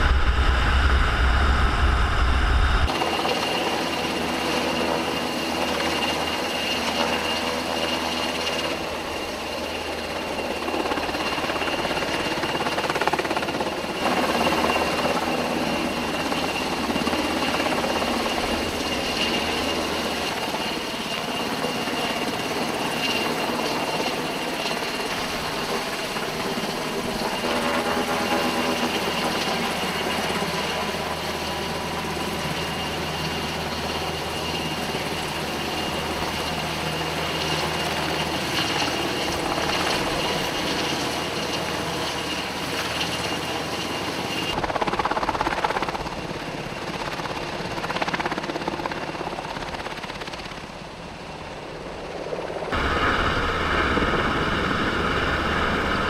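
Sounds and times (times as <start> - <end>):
helicopter engine drone and whine: 0.0 - 56.0.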